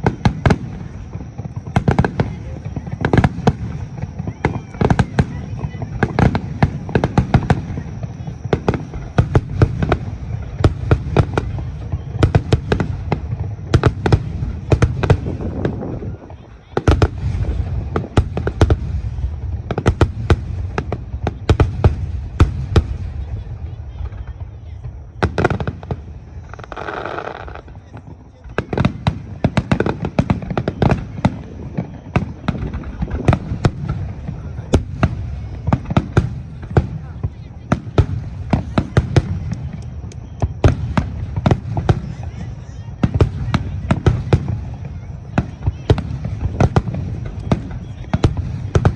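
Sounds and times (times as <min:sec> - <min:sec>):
continuous low rumble: 0:00.0 - 0:48.9
fireworks bursting: 0:00.0 - 0:48.9.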